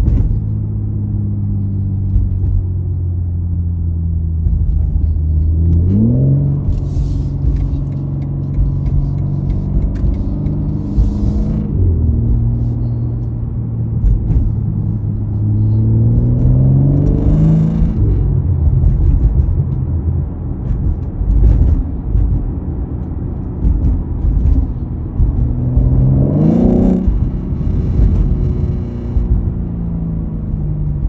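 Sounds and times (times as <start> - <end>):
car engine revving from inside: 0.0 - 31.0
low road rumble: 0.0 - 31.0.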